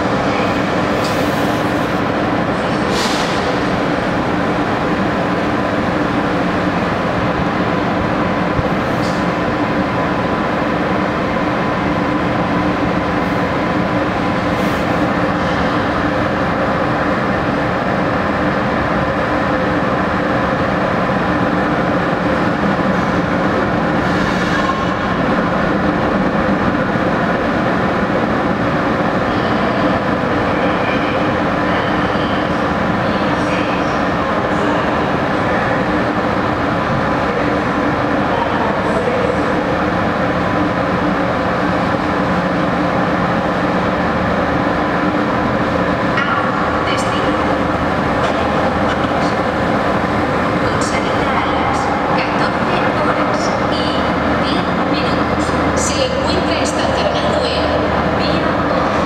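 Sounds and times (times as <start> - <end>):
electric train humming: 0.0 - 59.0.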